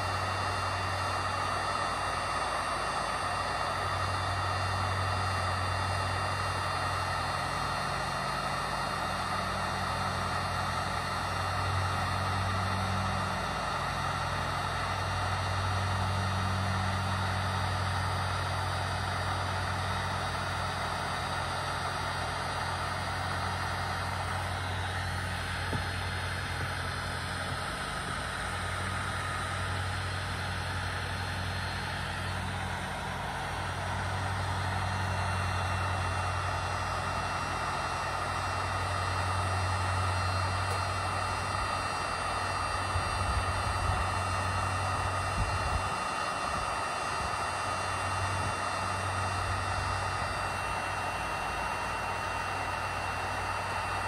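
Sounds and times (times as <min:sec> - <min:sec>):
heat gun fan humming: 0:00.0 - 0:54.0.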